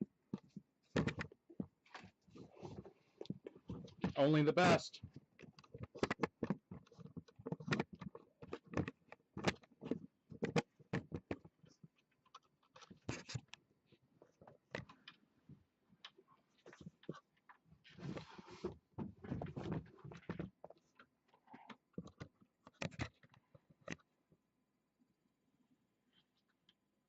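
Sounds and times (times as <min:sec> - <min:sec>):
clicks and scrapes of plastic and metal: 0:00.2 - 0:24.1.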